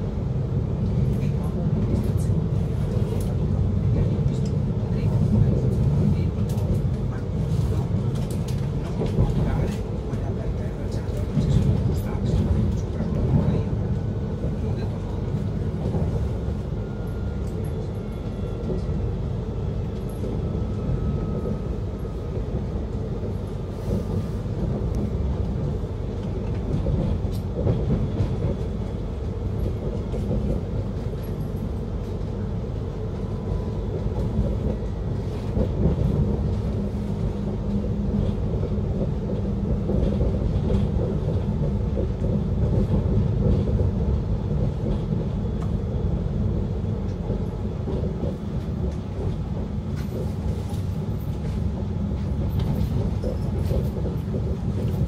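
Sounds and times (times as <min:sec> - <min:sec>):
train rumbling on tracks: 0:00.0 - 0:55.0.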